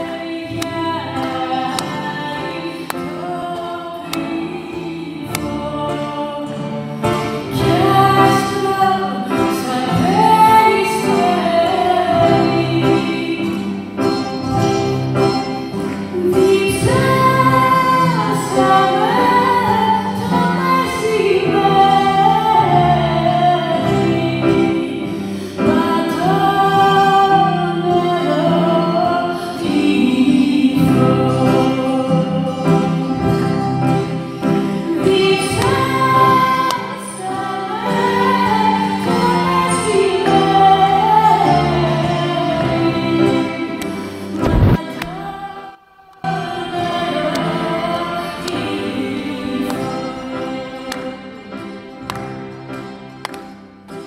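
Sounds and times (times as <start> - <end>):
woman singing into microphone: 0.0 - 51.7.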